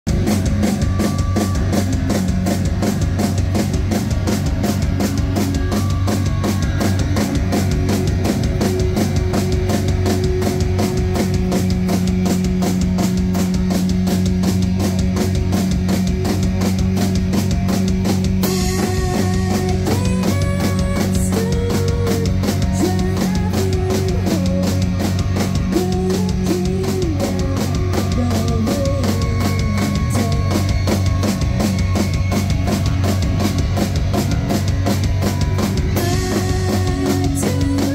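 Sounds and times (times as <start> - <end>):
rock band playing live: 0.1 - 37.9.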